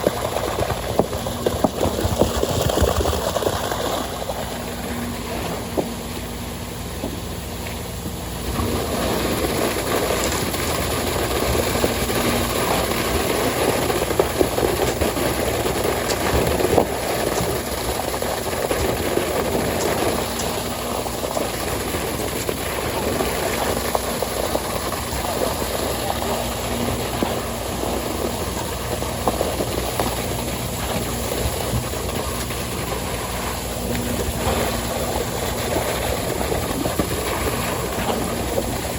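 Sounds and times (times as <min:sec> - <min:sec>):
engine-driven machine running: 0:00.0 - 0:38.9.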